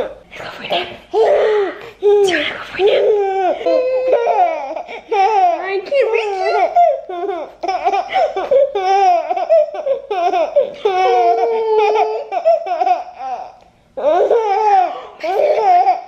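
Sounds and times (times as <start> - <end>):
baby laughing: 2.8 - 16.0.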